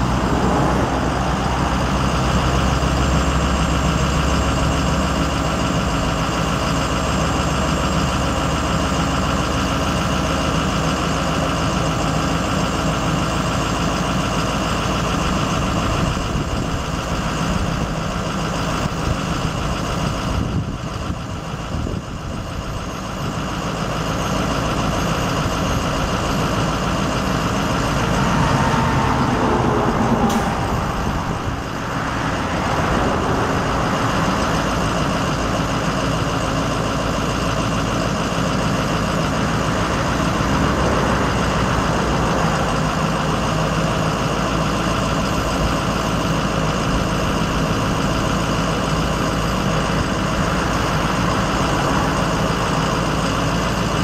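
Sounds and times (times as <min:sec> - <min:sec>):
diesel truck engine rumbling: 0:00.0 - 0:54.0.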